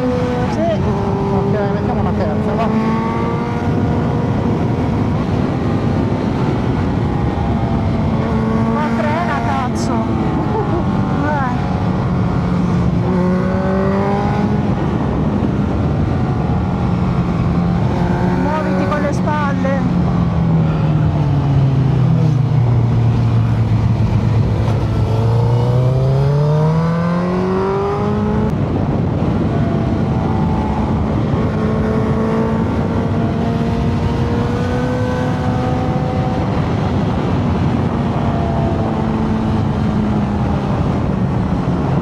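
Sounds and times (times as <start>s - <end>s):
motorcycle engine accelerating: 0.0s - 42.0s
wind noise: 0.0s - 42.0s.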